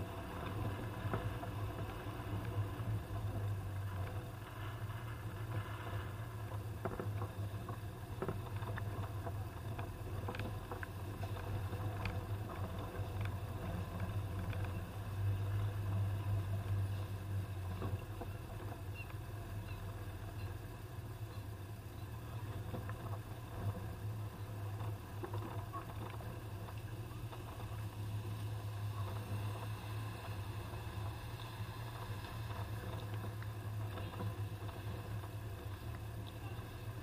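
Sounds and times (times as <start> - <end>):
engine drone: 0.0 - 37.0
vehicle knocks and rattles: 0.3 - 37.0.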